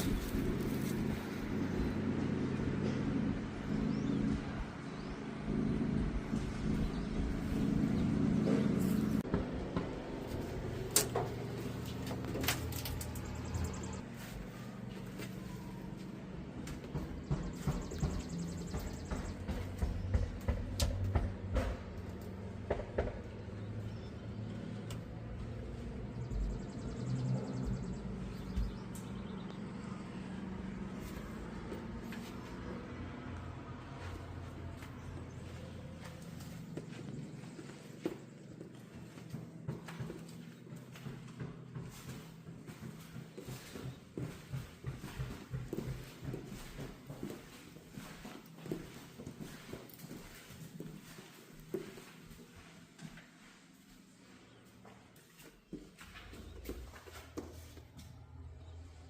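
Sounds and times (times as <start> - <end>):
steady low rumble: 0.0 - 52.7
vehicle engine running: 0.0 - 59.0.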